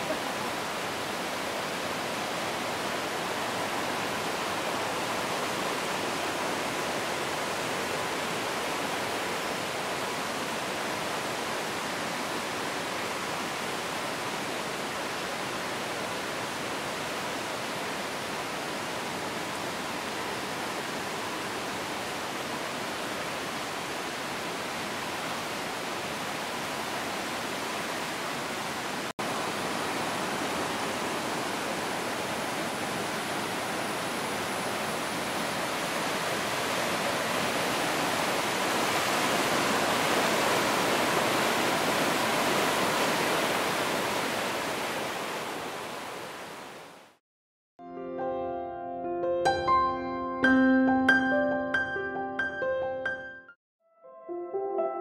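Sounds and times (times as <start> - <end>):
river rushing over rapids: 0.0 - 47.2.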